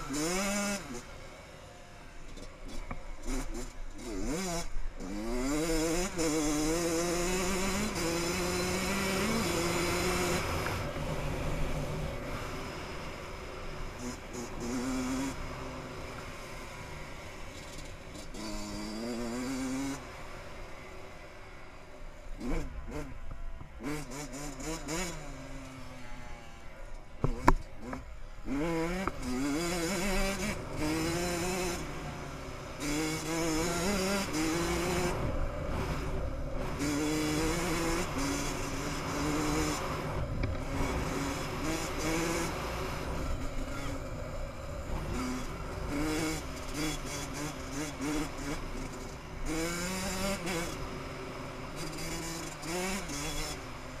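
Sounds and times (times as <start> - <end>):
dirt bike engine revving: 0.0 - 25.9, 27.0 - 54.0.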